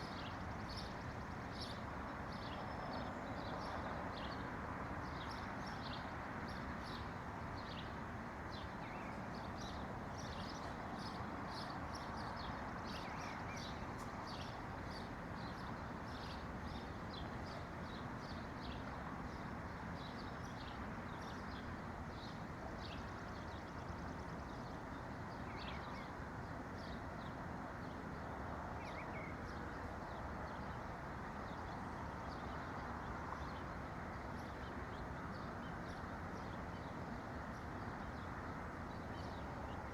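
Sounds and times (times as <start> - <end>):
small songbirds chirping: 0.0 - 27.4, 28.1 - 39.9.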